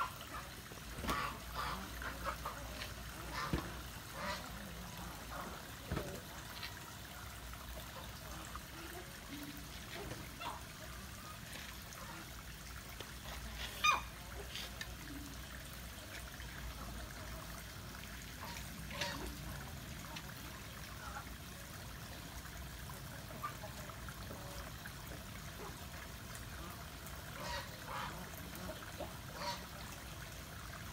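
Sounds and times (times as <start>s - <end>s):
water trickling: 0.0s - 30.9s.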